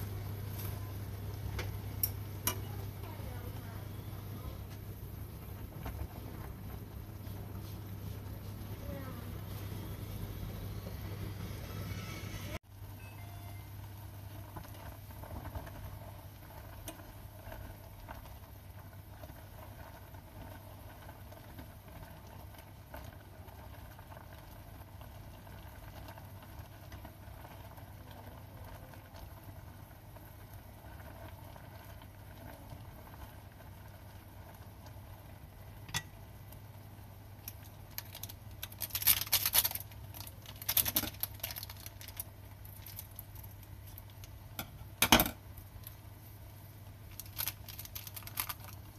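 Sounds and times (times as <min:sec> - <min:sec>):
water bubbling in a saucepan: 0:00.0 - 0:11.8, 0:12.6 - 0:39.0, 0:39.8 - 0:48.9.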